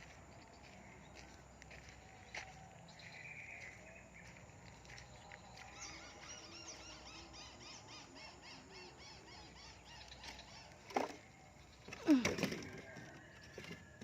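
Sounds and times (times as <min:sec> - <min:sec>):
bird chirping: 0:00.0 - 0:13.8.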